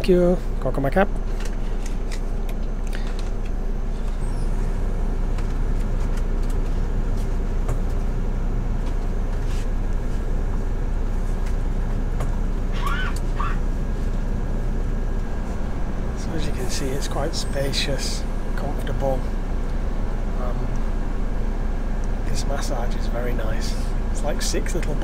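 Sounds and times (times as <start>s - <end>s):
coach bus drone from inside: 0.0s - 25.0s.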